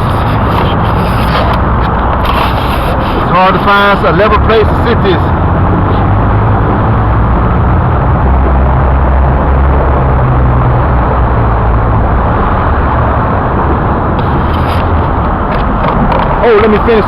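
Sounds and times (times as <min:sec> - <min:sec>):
engine low drone: 0:00.0 - 0:17.0.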